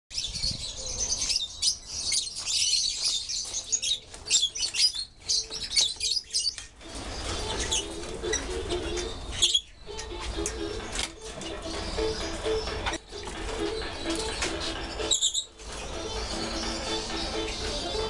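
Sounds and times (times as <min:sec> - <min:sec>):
lovebirds chirping shrilly: 0:00.1 - 0:18.0.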